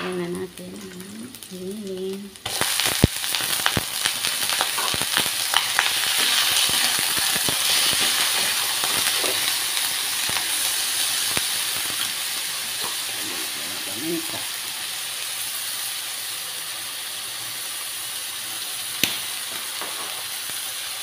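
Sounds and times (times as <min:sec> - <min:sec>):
meat sizzling in a wok: 0:01.3 - 0:21.0.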